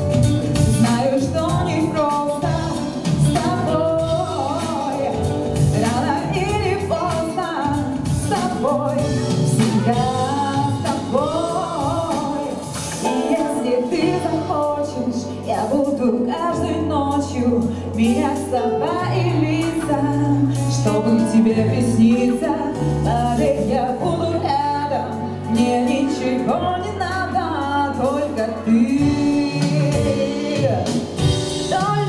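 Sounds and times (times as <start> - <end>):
backing music with steady beat: 0.0 - 32.0
woman singing pop ballad: 0.0 - 32.0.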